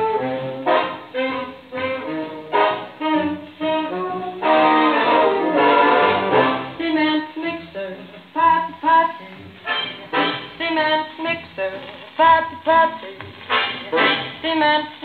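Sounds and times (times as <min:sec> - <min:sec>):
dance-band song on old record: 0:00.0 - 0:15.0.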